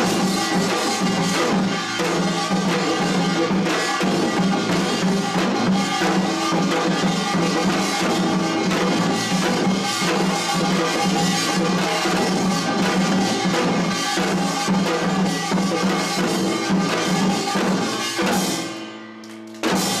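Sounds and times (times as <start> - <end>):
drums and gongs percussion band: 0.0 - 20.0.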